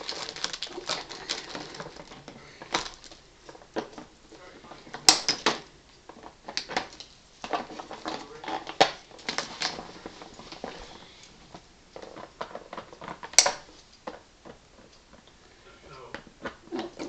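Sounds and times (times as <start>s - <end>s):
cardboard and tape crackling: 0.0s - 17.0s.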